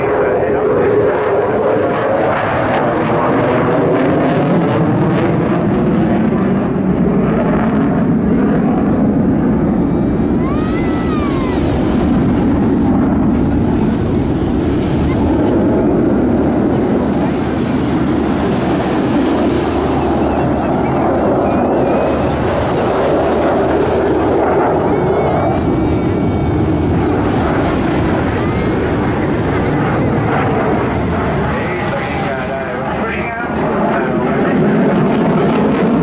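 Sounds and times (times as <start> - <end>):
distant jet engine rumble: 0.0 - 36.0.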